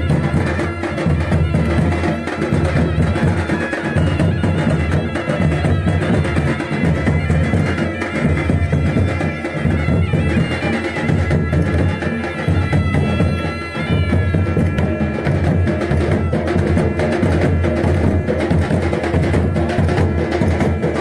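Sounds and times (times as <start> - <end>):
drums beating fast rhythm: 0.0 - 21.0
shehnai playing melody: 0.0 - 21.0.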